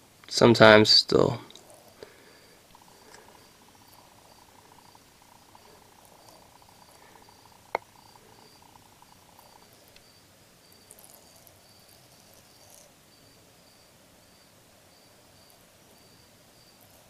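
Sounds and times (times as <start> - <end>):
cricket chirping: 0.6 - 17.0.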